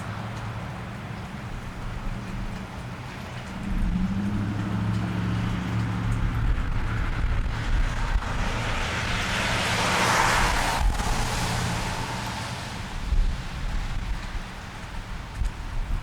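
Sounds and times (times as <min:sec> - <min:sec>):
car engine hum: 0:00.0 - 0:15.2
tyres hissing on wet road: 0:00.0 - 0:16.0.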